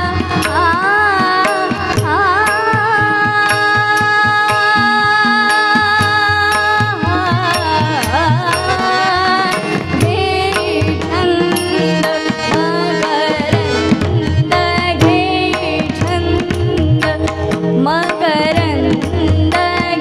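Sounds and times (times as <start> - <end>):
tabla strokes: 0.0 - 20.0.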